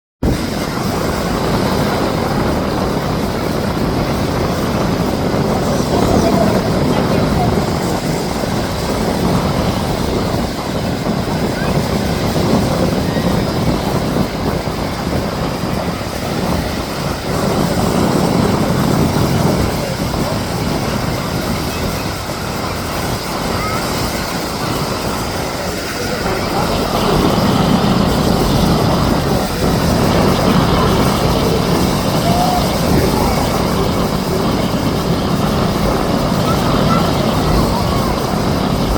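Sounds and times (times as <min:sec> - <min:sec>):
turboprop engines droning: 0:00.2 - 0:38.9.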